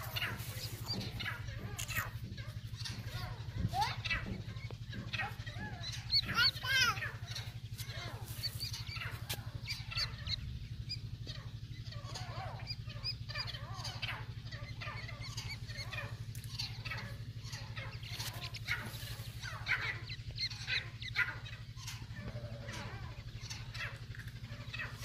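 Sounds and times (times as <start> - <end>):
chicks peeping: 0.0 - 25.0
steady low hum: 0.0 - 25.0.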